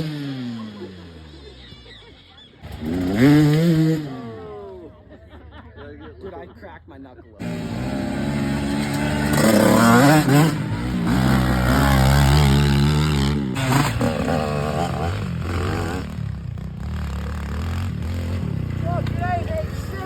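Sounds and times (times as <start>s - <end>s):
dirt bike engine revving: 0.0s - 1.9s, 2.6s - 4.5s, 7.4s - 20.0s.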